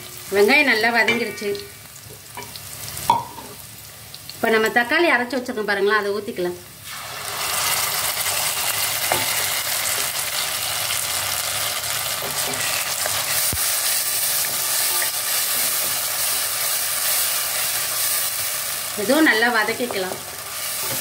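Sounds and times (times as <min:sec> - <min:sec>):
sauce sizzling in oil: 0:00.0 - 0:21.0.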